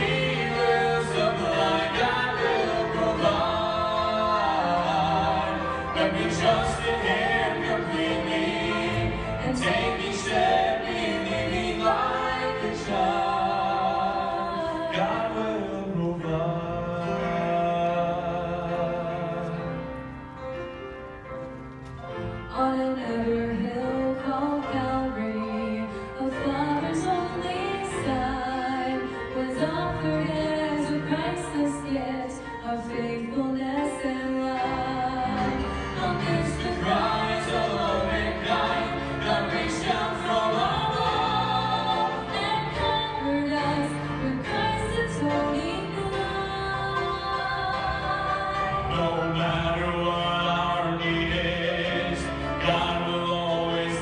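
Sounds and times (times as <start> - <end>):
man and woman singing duet: 0.0 - 20.0, 22.5 - 54.0.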